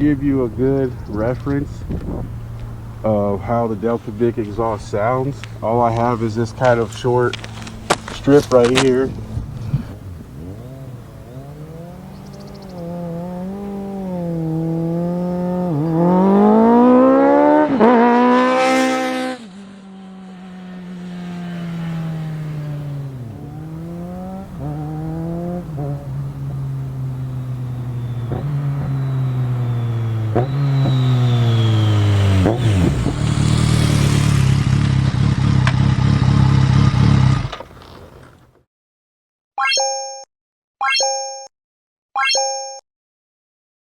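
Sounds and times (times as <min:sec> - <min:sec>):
motorcycle engine accelerating: 0:00.0 - 0:38.6.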